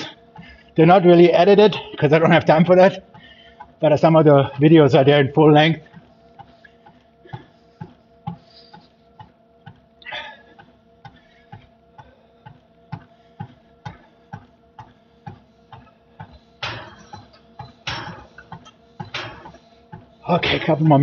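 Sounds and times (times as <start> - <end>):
cardio machine clicking and humming: 0.0 - 21.0.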